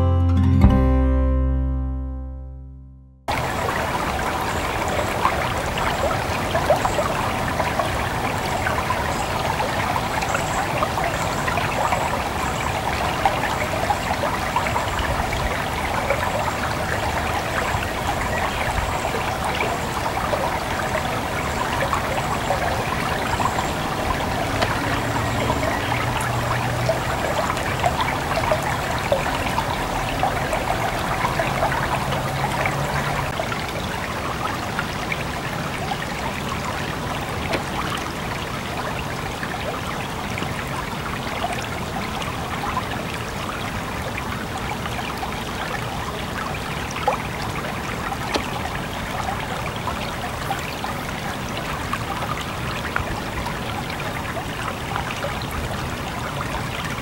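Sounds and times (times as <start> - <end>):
brook babbling over rocks: 3.3 - 57.0.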